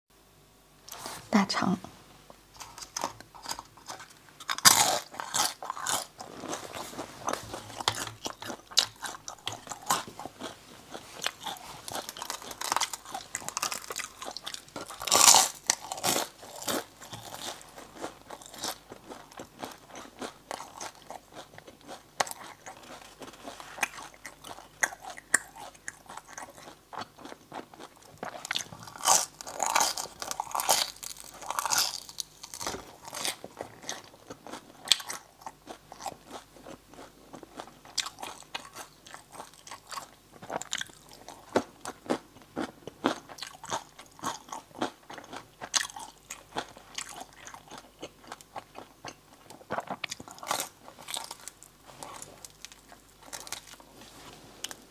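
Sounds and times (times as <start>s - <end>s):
close-miked chewing: 2.5s - 54.0s.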